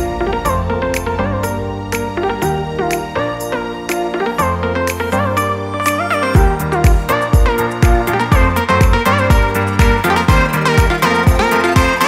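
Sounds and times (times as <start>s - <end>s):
light percussion: 0.0s - 12.0s
sliding melody over bass: 0.0s - 12.0s.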